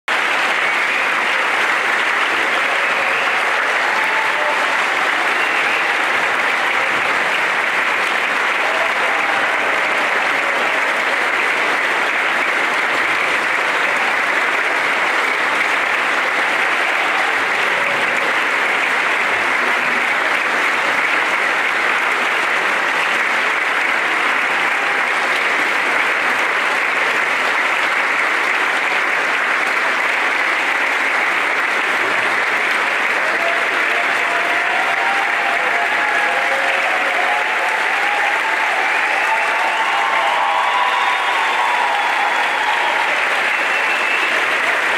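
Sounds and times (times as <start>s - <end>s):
large audience applauding: 0.0s - 44.9s.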